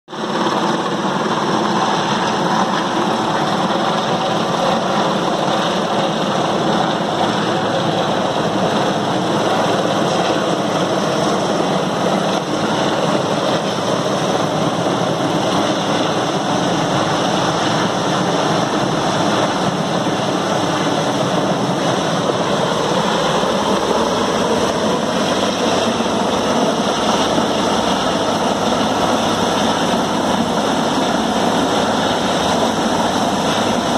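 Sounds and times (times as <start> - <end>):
helicopter engine and rotor: 0.1 - 33.9.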